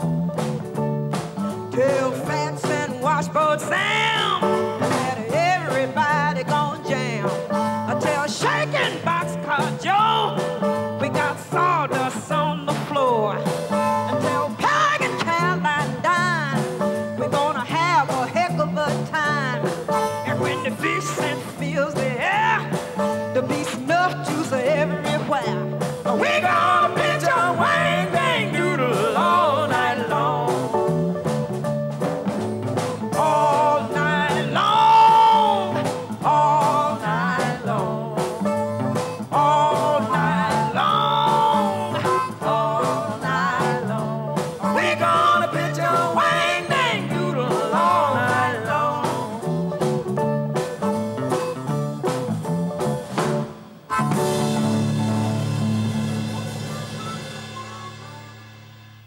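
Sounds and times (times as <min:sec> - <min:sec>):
electric band playing: 0:00.0 - 0:59.0
woman singing blues: 0:01.4 - 0:31.3, 0:32.8 - 0:51.7.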